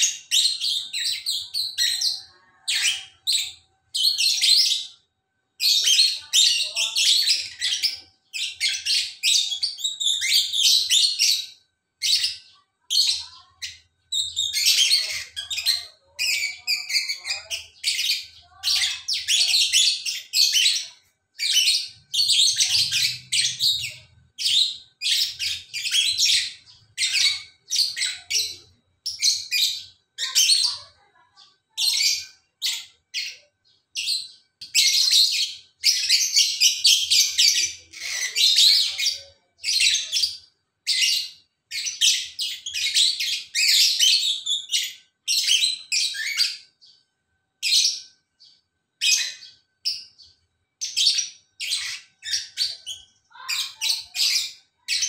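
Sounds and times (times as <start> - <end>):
lovebirds chirping: 0.0 - 47.0, 47.6 - 55.0.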